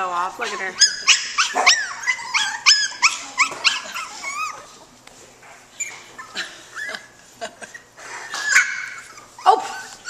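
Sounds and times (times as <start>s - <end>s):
puppies making high calls: 0.4s - 4.8s, 5.8s - 10.0s.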